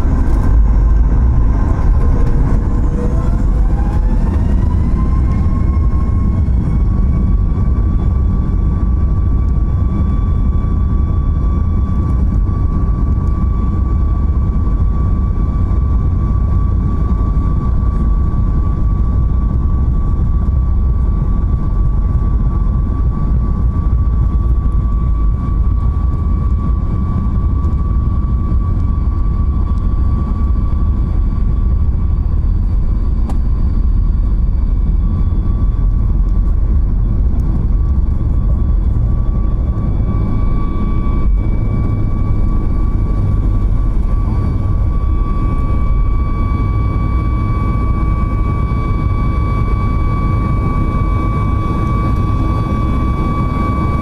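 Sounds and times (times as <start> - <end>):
high engine whine: 0.0 - 54.0
jet engines heavy rumble: 0.0 - 54.0.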